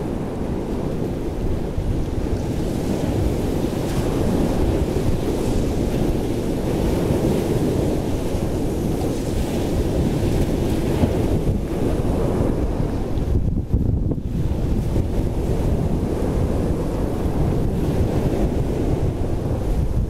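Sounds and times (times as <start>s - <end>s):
choppy sea waves: 0.0s - 20.0s
wind on microphone: 0.0s - 20.0s.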